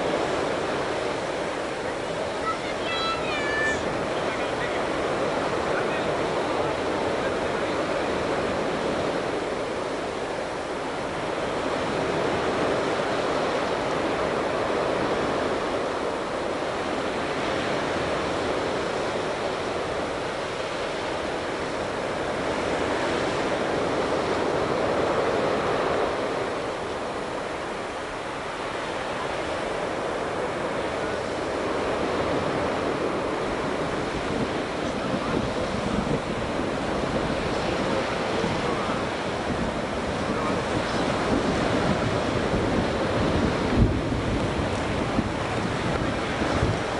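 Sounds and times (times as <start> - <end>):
ocean surf breaking on beach: 0.0 - 46.9
wind: 0.0 - 46.9.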